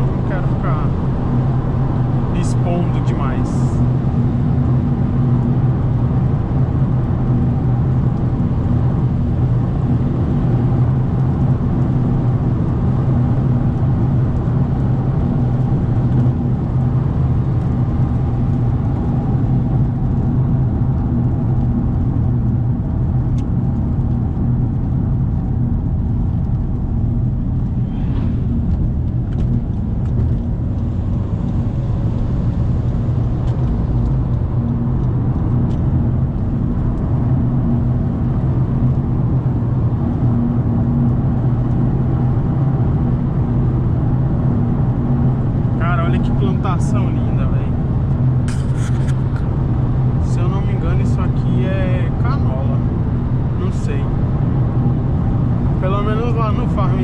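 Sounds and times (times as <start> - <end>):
car engine humming: 0.0 - 57.0
tyre and road noise: 0.0 - 57.0.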